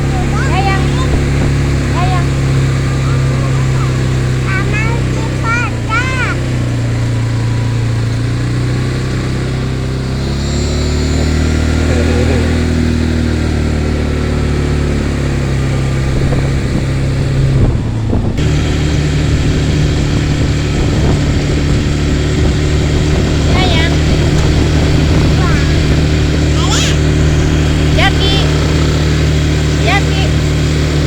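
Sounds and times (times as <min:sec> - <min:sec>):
quad bike engine running: 0:00.0 - 0:31.0.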